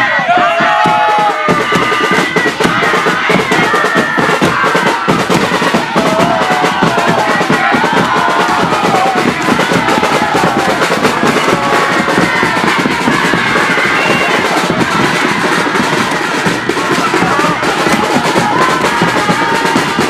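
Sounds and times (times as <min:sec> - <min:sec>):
fast drumming: 0:00.0 - 0:20.0
students chanting a cheer: 0:00.0 - 0:20.0.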